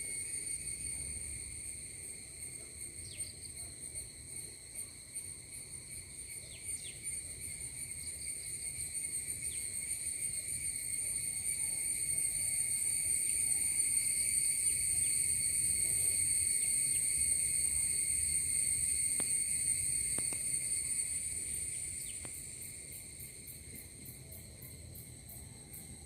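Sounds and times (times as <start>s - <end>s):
high insect trill: 0.0s - 26.0s.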